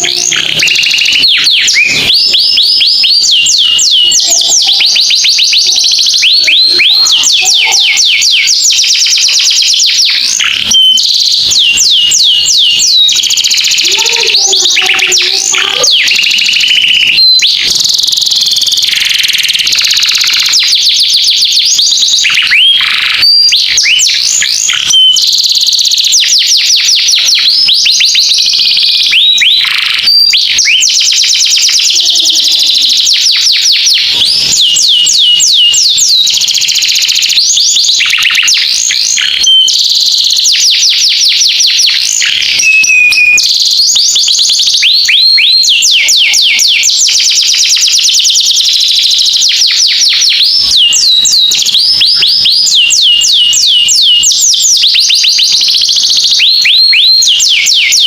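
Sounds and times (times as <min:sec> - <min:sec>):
bird singing fast trills: 0:00.0 - 0:58.0.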